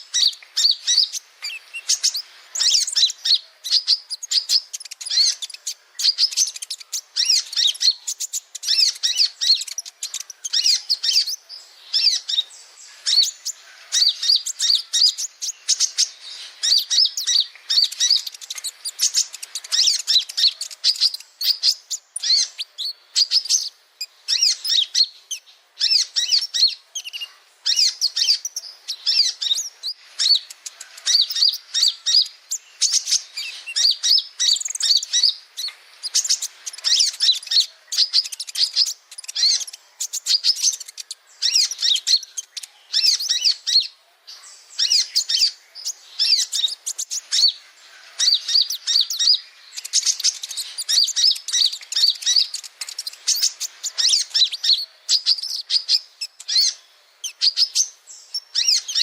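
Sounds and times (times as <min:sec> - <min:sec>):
sunbird twittering song: 0:00.0 - 0:59.0.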